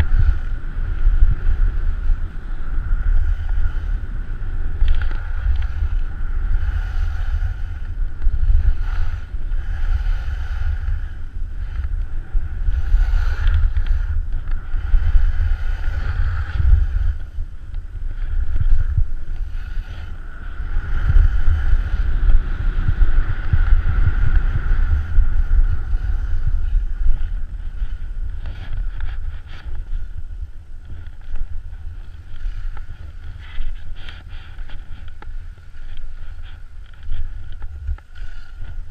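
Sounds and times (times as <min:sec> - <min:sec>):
skis scraping on snow: 0:00.0 - 0:38.9
wind buffeting microphone: 0:00.0 - 0:38.9.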